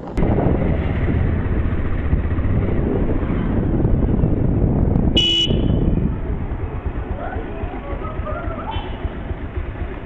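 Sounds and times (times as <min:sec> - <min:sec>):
wind buffeting microphone: 0:00.0 - 0:08.7
motorcycle engine: 0:00.0 - 0:10.0.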